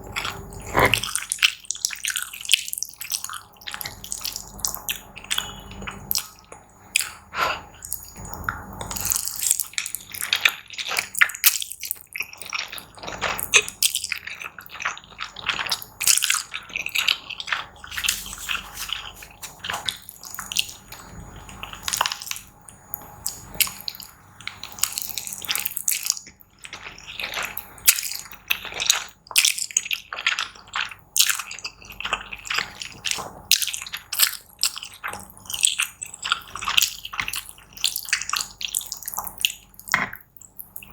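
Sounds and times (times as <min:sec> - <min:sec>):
wet chewing and mouth smacks: 0:00.0 - 0:40.9.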